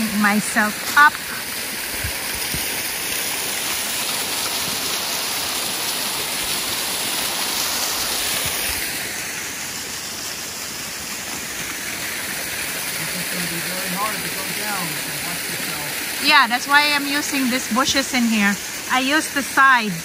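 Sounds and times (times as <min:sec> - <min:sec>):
water rushing down rocks: 0:00.0 - 0:20.0.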